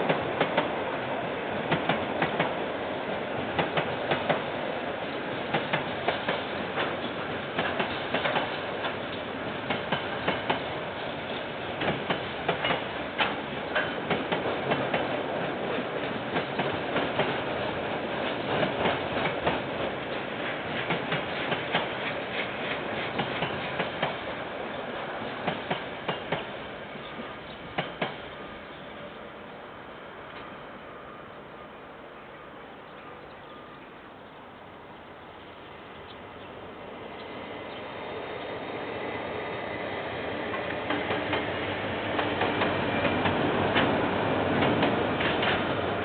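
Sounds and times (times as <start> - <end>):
train wagons rolling: 0.0 - 29.2, 37.0 - 46.0.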